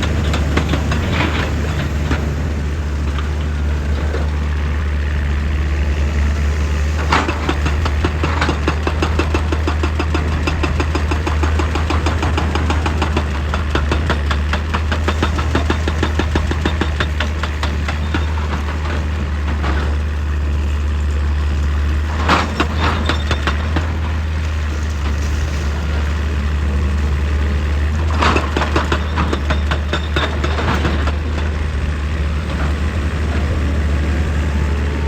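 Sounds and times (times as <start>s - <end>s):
excavator diesel engine under load: 0.0s - 35.0s.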